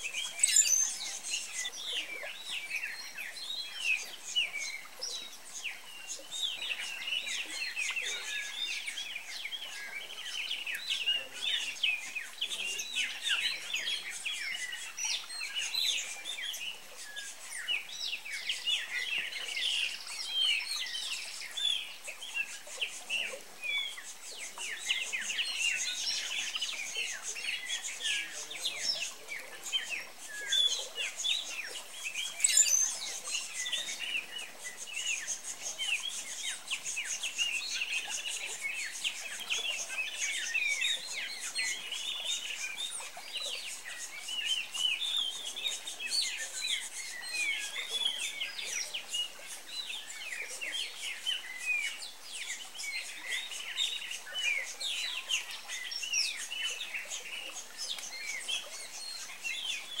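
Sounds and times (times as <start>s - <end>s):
chorus of birds chirping: 0.0s - 60.0s.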